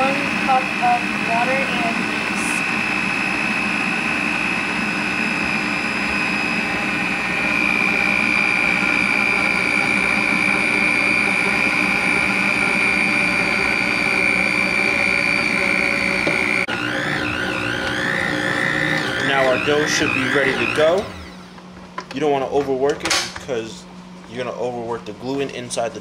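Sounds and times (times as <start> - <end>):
electric mixer motor whine: 0.0 - 22.1.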